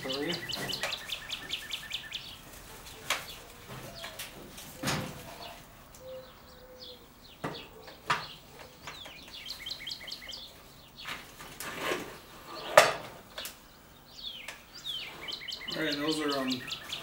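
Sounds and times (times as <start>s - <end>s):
small bird chirping: 0.0s - 4.2s, 5.4s - 11.2s, 12.1s - 17.0s.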